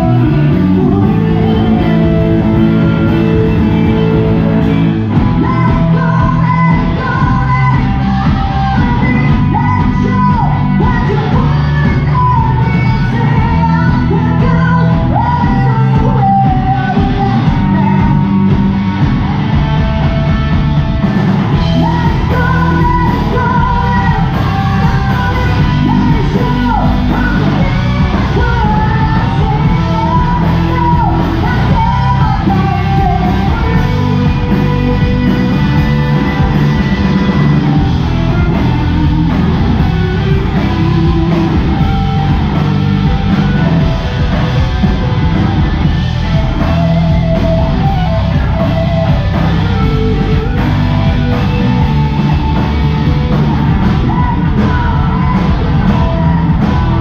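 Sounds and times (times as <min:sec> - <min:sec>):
lead vocalist singing and yelling: 0:00.0 - 0:57.0
rock band playing: 0:00.0 - 0:57.0.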